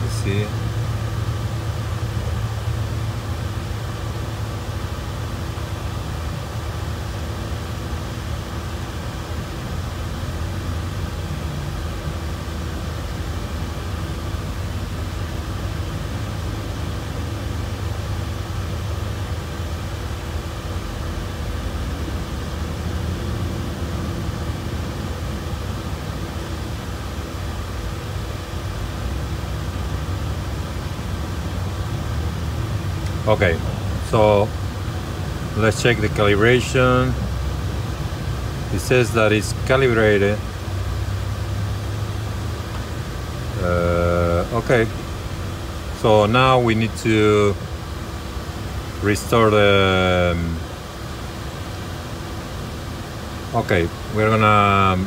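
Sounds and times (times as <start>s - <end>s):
machinery hum: 0.0s - 55.0s.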